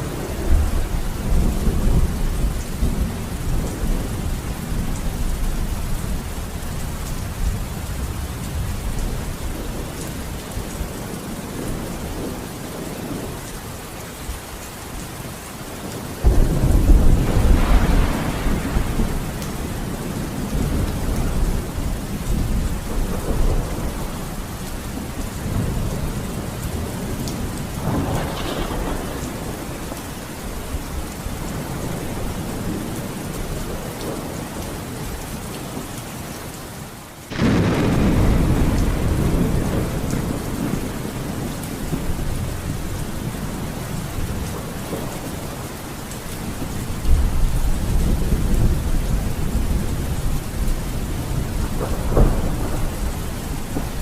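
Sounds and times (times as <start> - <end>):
thunder rumbling: 0.0 - 13.3, 16.2 - 34.4, 37.3 - 45.8, 46.4 - 54.0
heavy rain: 0.0 - 54.0.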